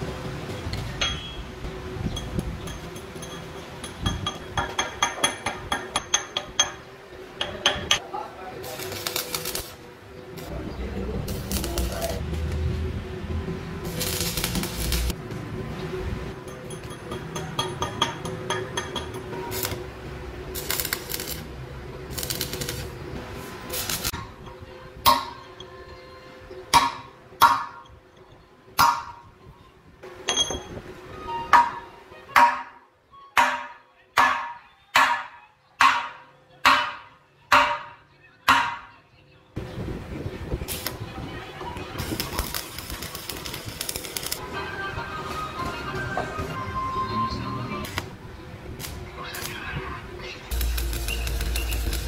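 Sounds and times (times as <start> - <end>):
steady background noise: 0.0 - 52.0.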